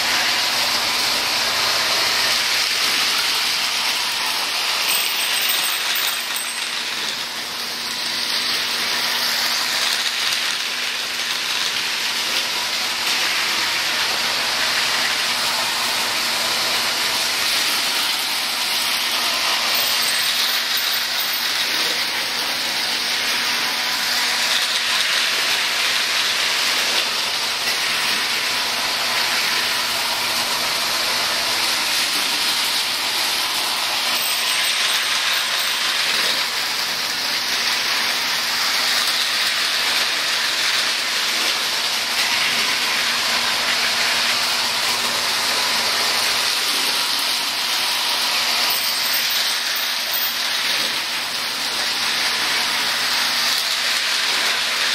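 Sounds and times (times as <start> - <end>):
toy trains running on metal rails: 0.0 - 54.9.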